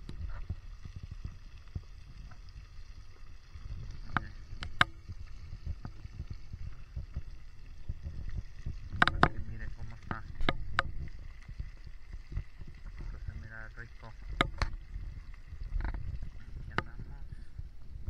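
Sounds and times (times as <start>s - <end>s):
oil bubbling and crackling: 0.0s - 18.0s.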